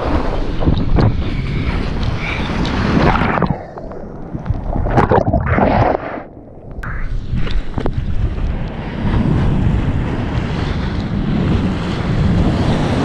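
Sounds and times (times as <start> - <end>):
water rushing and splashing: 0.0 - 13.0
wind buffeting microphone: 0.0 - 13.0.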